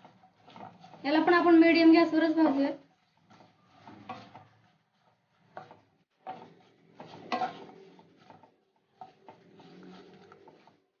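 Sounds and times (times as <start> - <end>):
spatula scraping and knocking pan: 0.0 - 11.0
wooden spatula stirring in hot oil: 0.0 - 11.0.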